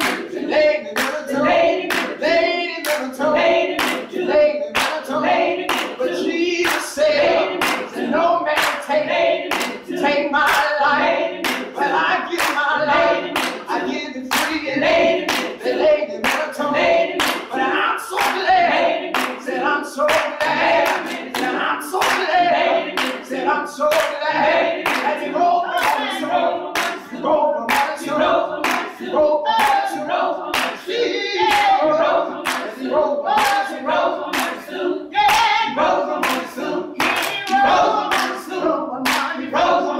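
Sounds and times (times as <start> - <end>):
group singing gospel song: 0.0 - 39.9.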